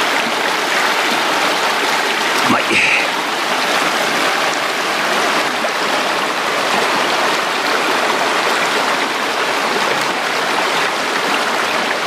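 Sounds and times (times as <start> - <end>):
stream flowing over stones: 0.0 - 12.0.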